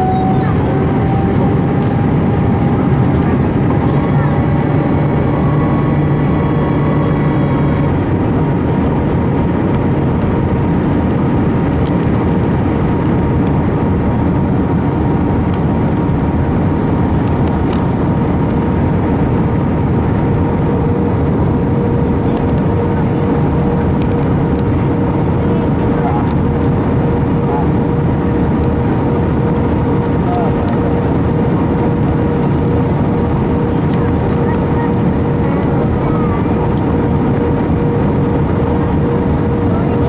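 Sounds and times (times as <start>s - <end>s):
jet engines and airflow rushing: 0.0s - 40.0s
low hum: 0.0s - 40.0s
steady whine: 0.0s - 40.0s.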